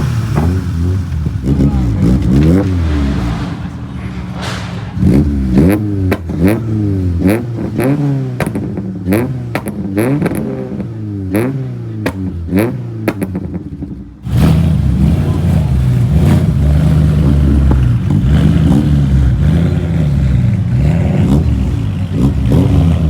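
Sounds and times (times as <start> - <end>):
exhaust pops and bangs: 0.0 - 14.9, 16.1 - 19.9
car engine revving: 0.0 - 23.0.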